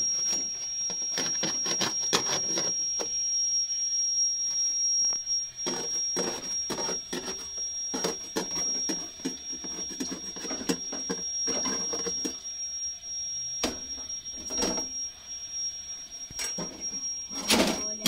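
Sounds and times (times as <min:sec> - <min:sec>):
steady high-pitched whine: 0:00.0 - 0:18.0.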